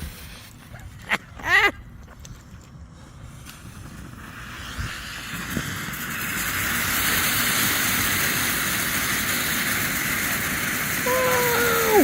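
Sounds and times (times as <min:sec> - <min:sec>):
fountain firework hissing: 0:00.0 - 0:01.6, 0:02.9 - 0:12.0.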